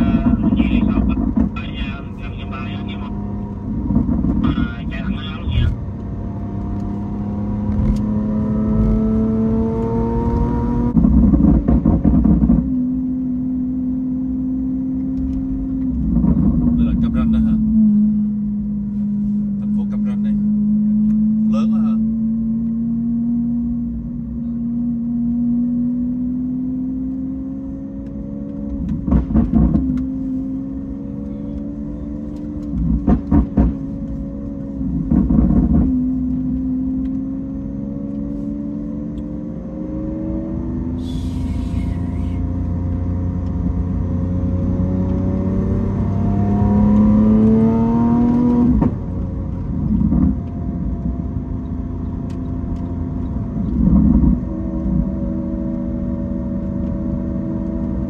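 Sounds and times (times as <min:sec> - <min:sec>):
vehicle engine running: 0:00.0 - 0:13.3, 0:15.0 - 0:25.3, 0:27.2 - 0:58.0.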